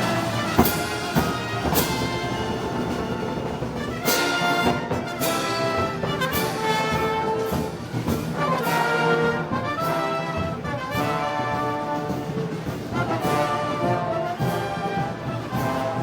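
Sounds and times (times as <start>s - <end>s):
brass band playing: 0.0s - 16.0s
cymbal and drum strokes: 0.0s - 16.0s.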